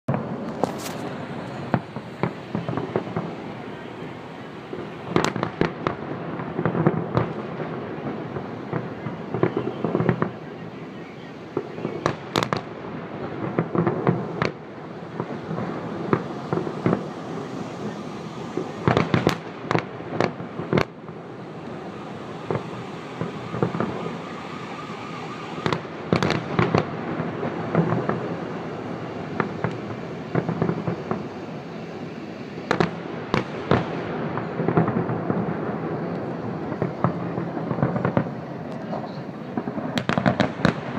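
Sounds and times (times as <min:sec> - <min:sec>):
fireworks bursting with bangs: 0:00.1 - 0:40.9.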